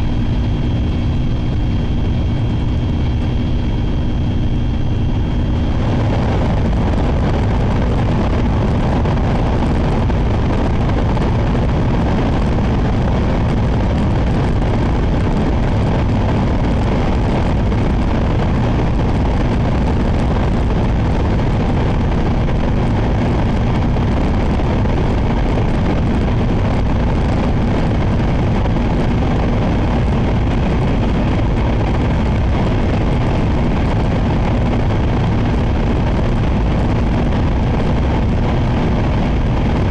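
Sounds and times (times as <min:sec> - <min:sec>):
train rumble inside cabin: 0:00.0 - 0:39.9.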